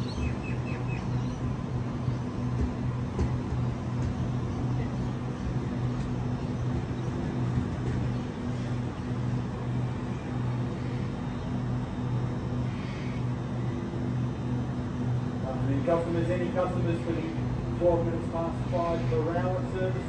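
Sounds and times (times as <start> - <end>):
constant rushing background: 0.0 - 20.0
electric train electrical hum: 0.0 - 20.0.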